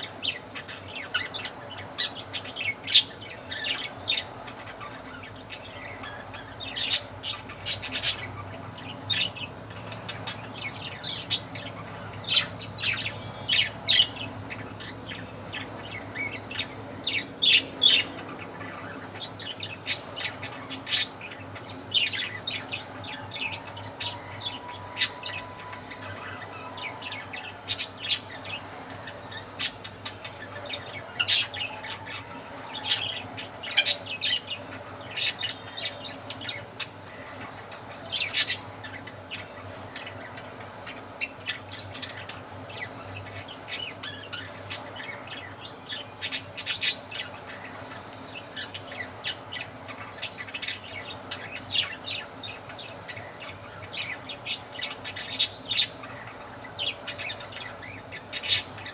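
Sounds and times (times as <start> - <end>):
budgerigars chirping: 0.0 - 58.9.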